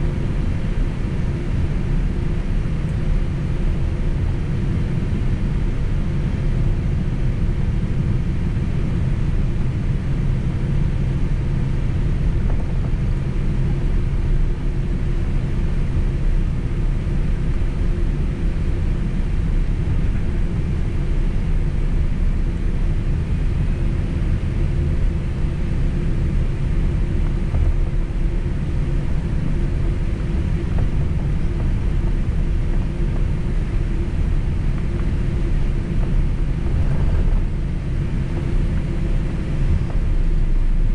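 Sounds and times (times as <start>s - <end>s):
airliner engines rumbling in cabin: 0.0s - 40.9s
faint steady hum: 0.0s - 40.9s.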